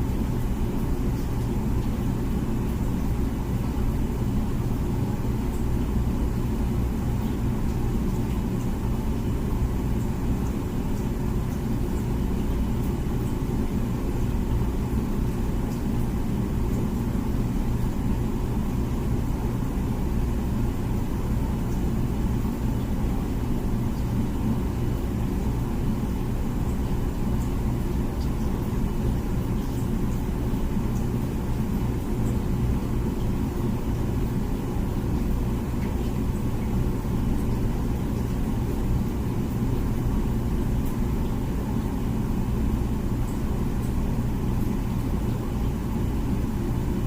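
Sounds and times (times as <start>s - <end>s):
dishwasher running: 0.0s - 47.0s.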